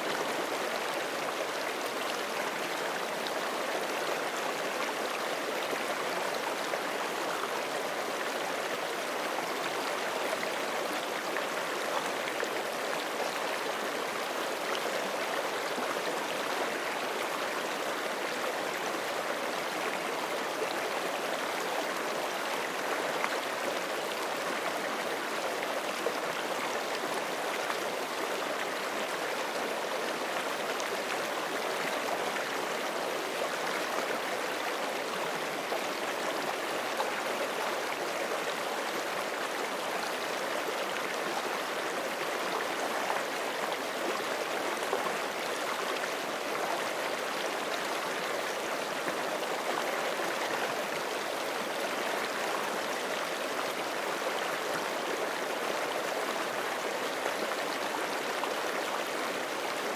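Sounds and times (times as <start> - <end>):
creek flowing over rocks: 0.0 - 59.9.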